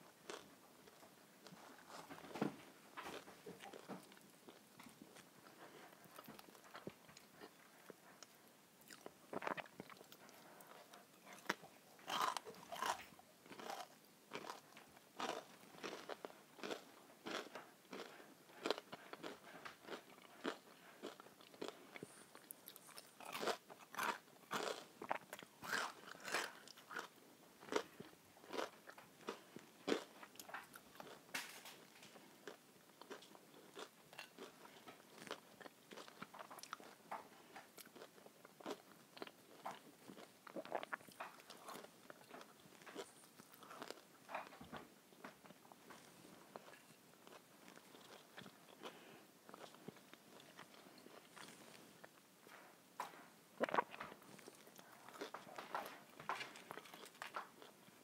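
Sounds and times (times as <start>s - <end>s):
person chewing crunchy food: 0.2s - 2.1s, 3.1s - 58.0s.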